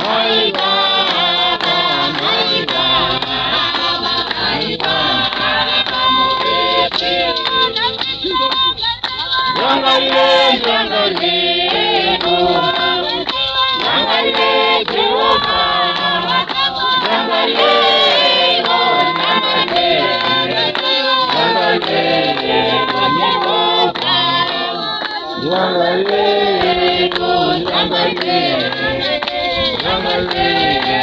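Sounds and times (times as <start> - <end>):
hand-clapping beat: 0.0 - 31.0
women singing in chorus: 0.0 - 31.0.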